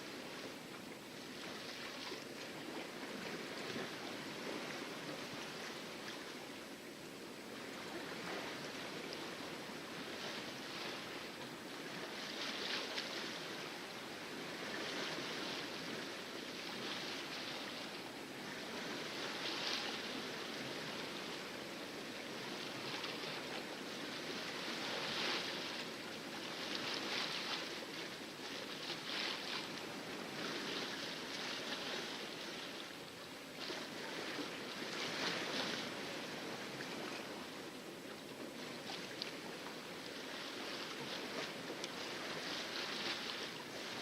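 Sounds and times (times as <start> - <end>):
water rushing along a boat hull: 0.0 - 44.0.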